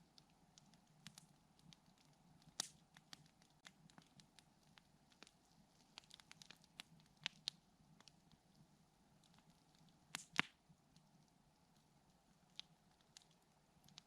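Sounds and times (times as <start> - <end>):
wood campfire crackling: 0.0 - 14.0.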